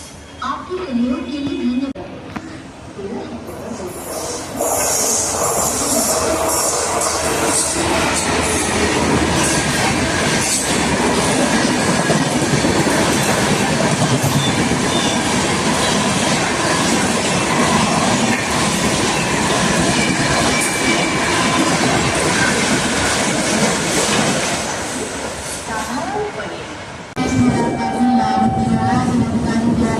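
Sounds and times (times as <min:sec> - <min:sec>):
train wheels rushing on rails: 0:03.6 - 0:29.9.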